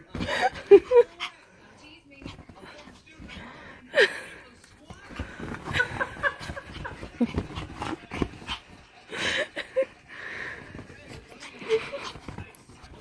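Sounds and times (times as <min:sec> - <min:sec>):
scuffling and rustling bedding: 0:00.0 - 0:13.0.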